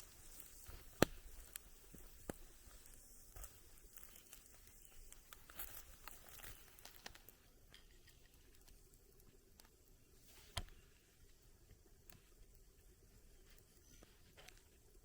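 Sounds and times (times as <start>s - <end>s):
campfire crackling: 0.0s - 15.0s
fire popping and snapping: 0.0s - 15.0s.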